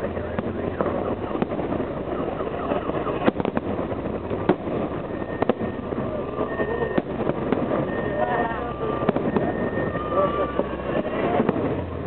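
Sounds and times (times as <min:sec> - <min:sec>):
background noise: 0:00.0 - 0:12.0
firework bangs: 0:00.0 - 0:12.0.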